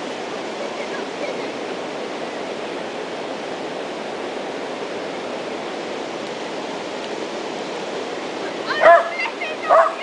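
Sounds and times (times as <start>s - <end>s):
waterfall pouring: 0.0s - 10.0s.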